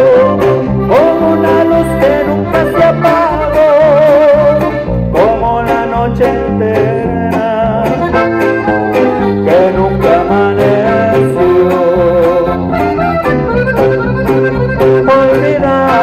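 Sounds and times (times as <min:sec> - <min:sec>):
accordion melody: 0:00.0 - 0:16.0
bass: 0:00.0 - 0:16.0.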